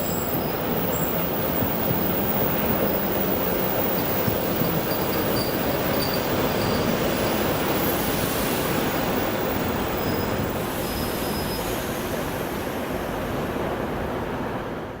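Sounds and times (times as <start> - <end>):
faint high wheel squeals: 0.0 - 12.2
wheels on rail: 0.0 - 12.4.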